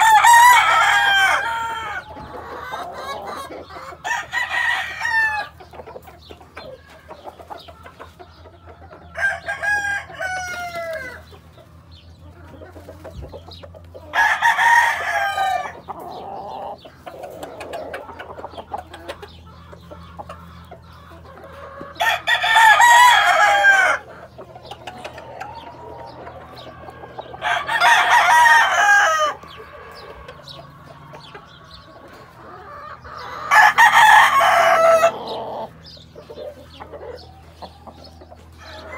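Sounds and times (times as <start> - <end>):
roosters crowing: 0.0 - 38.9.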